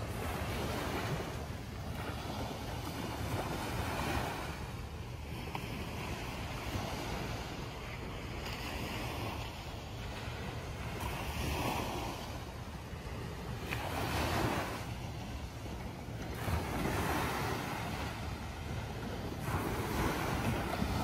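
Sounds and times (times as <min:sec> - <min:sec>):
waves washing on beach: 0:00.0 - 0:21.0
wind rumbling on microphone: 0:00.0 - 0:21.0.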